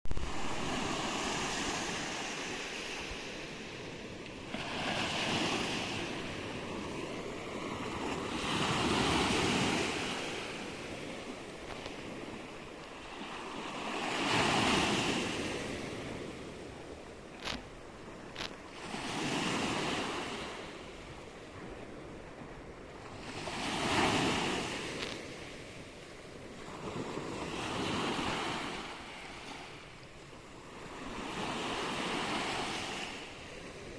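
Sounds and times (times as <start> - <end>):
wind: 0.0 - 33.9
waves washing in: 0.1 - 33.9.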